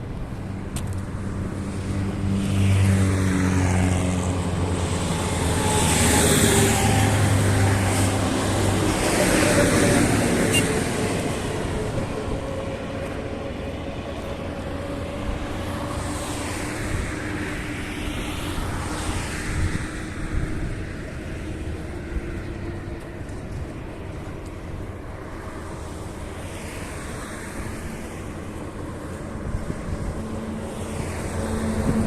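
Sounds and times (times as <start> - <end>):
vehicles passing by: 0.0 - 32.0.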